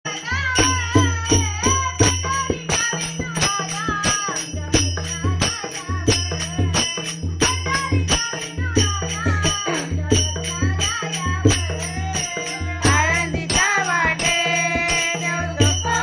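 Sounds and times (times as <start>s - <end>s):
steady percussion: 0.1s - 16.0s
woman singing: 0.1s - 16.0s.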